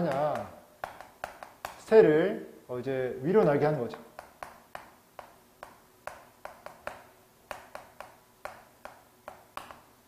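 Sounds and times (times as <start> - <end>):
chalk tapping on blackboard: 0.0 - 2.0, 3.4 - 10.0.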